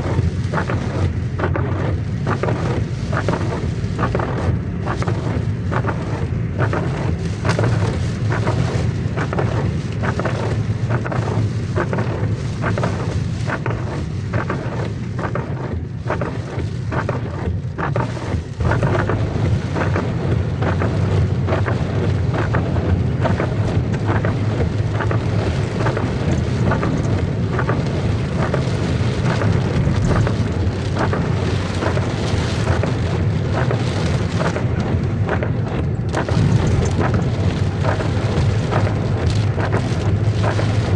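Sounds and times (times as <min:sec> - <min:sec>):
heavy rain falling: 0:00.0 - 0:40.9
low rumble: 0:00.0 - 0:40.9.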